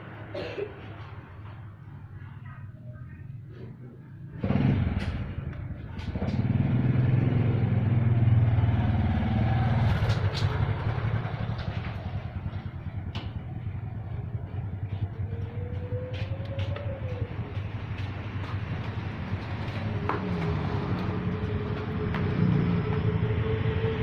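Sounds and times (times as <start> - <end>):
vehicle engine passing by: 4.2 - 24.0.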